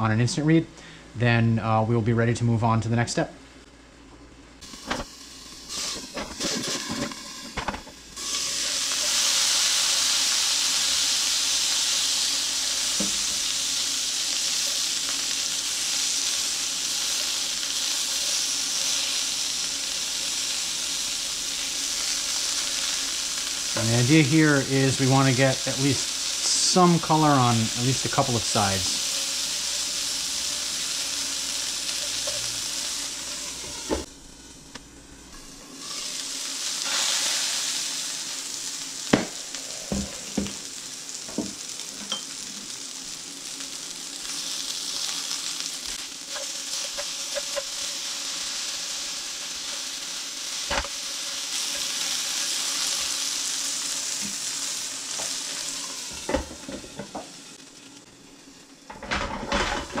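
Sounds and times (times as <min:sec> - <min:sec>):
meatballs sizzling in oil: 0:04.6 - 1:00.0.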